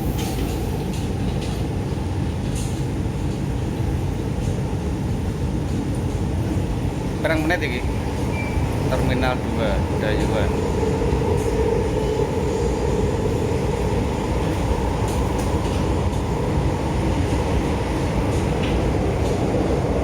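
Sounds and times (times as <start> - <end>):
train rumbling with low hum: 0.0 - 20.0.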